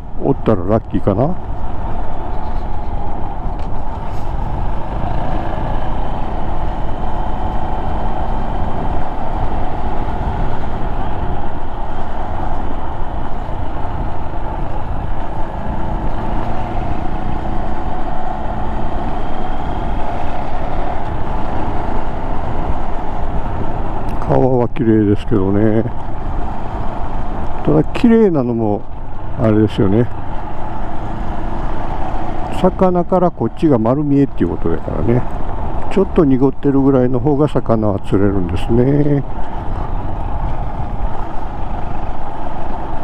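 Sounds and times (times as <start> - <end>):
road noise: 0.0 - 43.0.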